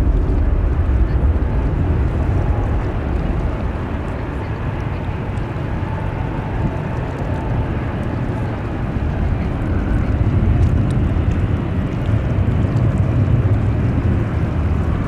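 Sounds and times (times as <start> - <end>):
jet engines deep rumble: 0.0 - 15.0.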